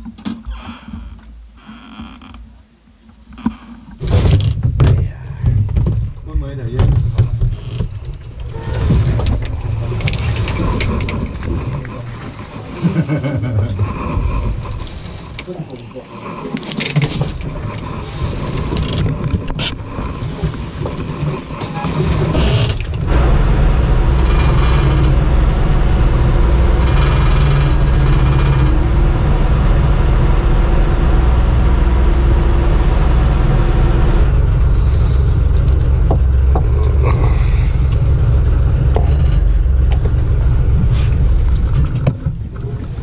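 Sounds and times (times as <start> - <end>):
wind: 0.0 - 43.0
boat engine humming: 4.6 - 43.0.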